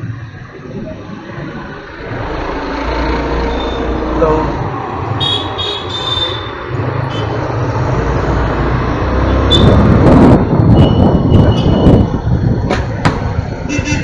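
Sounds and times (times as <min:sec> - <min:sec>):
scooter engine and wind rumble: 0:00.0 - 0:05.6, 0:06.4 - 0:14.0.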